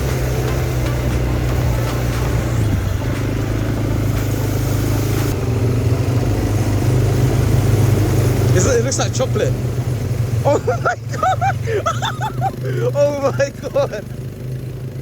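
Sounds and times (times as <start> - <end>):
atv engine running: 0.0 - 15.0
rough road noise: 0.0 - 15.0.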